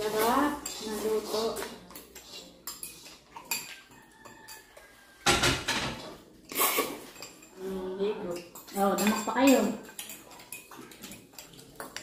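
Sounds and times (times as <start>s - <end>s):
cutlery clinking on ceramic bowls: 0.0s - 12.0s.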